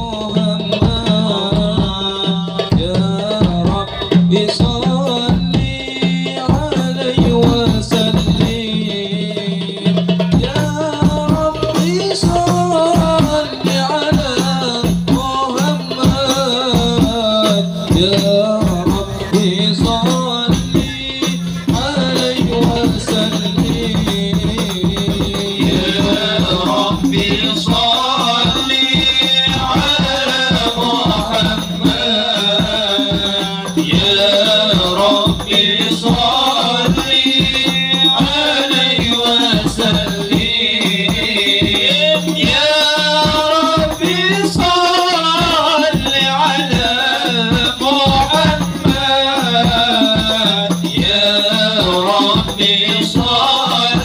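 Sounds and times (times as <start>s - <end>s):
hand drums beating: 0.0s - 54.0s
men chanting in unison: 0.0s - 54.0s.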